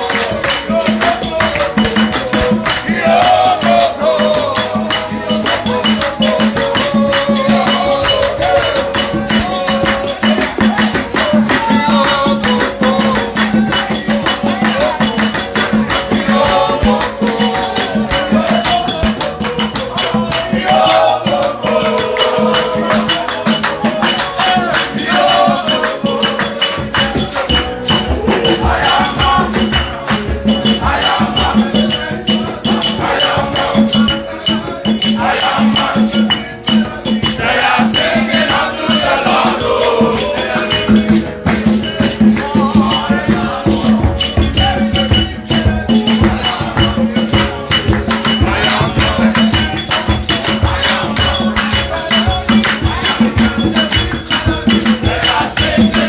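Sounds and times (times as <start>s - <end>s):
fast shaker rhythm: 0.0s - 56.0s
gospel worship music: 0.0s - 56.0s.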